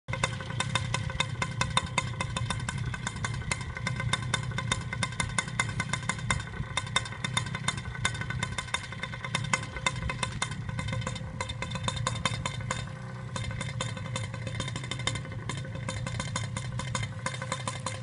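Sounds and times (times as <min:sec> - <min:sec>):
paramotor engine idling: 0:00.1 - 0:18.0
rapid irregular clicking and clatter: 0:00.1 - 0:18.0.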